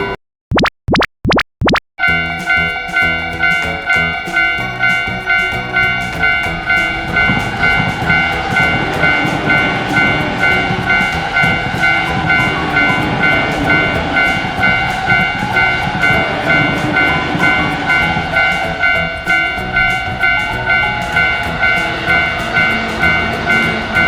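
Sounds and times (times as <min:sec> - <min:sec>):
train rumbling past: 0:02.0 - 0:24.0
two-tone crossing alarm ringing: 0:02.0 - 0:24.0.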